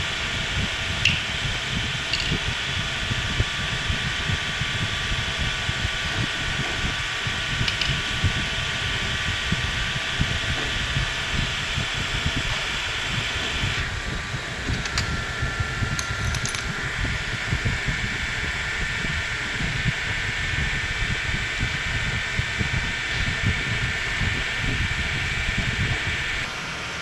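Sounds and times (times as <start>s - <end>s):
fan-like hum with low rumble: 0.0s - 27.0s.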